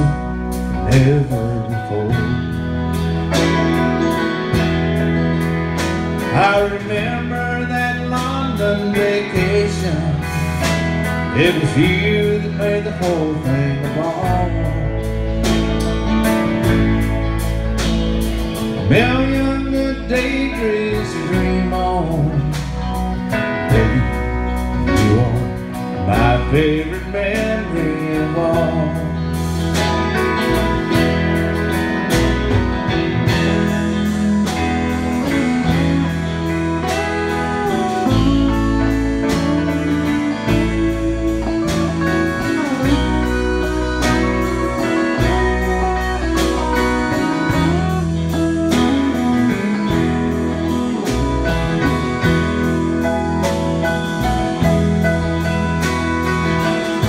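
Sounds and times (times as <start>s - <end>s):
country band playing: 0.0s - 57.0s
lead guitar solo: 0.0s - 57.0s.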